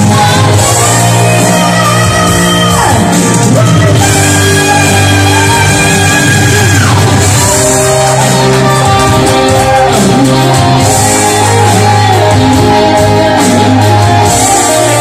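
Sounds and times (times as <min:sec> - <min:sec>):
drums and cymbals: 0:00.0 - 0:15.0
electric guitar melody: 0:00.0 - 0:15.0
low bass line: 0:00.0 - 0:15.0.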